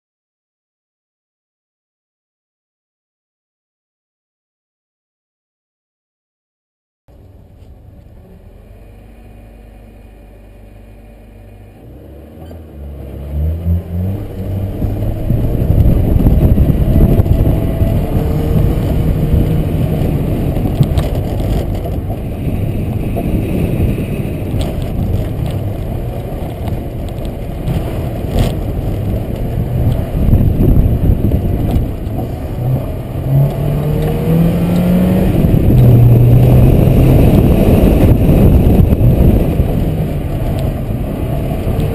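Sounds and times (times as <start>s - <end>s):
car engine revving: 7.2s - 41.9s.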